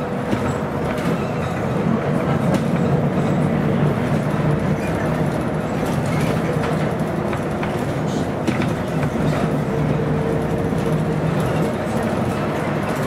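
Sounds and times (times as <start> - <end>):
bus diesel engine running: 0.0 - 13.0
heavy rolling rumble: 0.0 - 13.0
rattles and clicks from bus body: 0.0 - 13.0.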